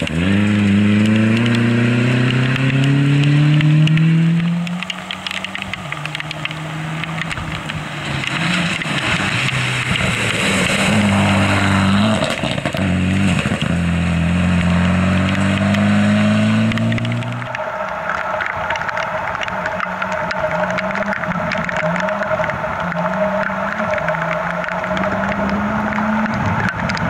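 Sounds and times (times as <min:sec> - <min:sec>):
rally car engine revving: 0:00.0 - 0:27.0
tyres hissing on wet gravel: 0:04.6 - 0:26.8.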